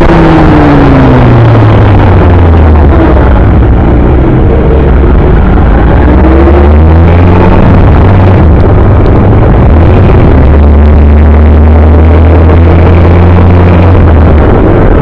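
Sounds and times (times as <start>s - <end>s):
motorbike engine rumble: 0.0s - 15.0s
wind on microphone: 0.0s - 15.0s.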